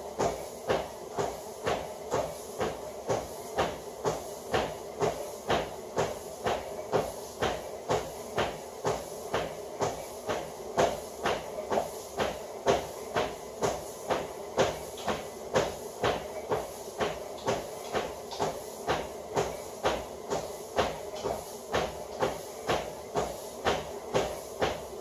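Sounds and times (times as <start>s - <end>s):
footfalls on treadmill belt: 0.0s - 25.0s
treadmill motor running: 0.0s - 25.0s.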